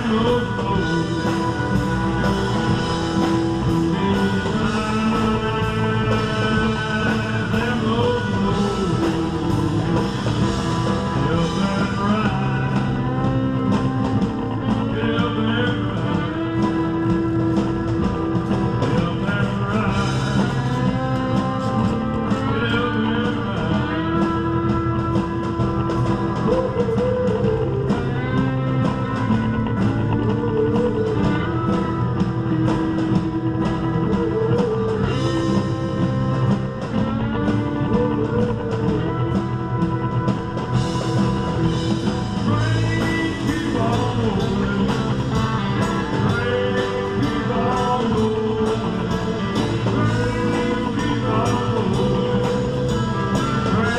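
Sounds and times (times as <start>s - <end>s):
drums: 0.0s - 53.9s
electric guitar: 0.0s - 53.9s.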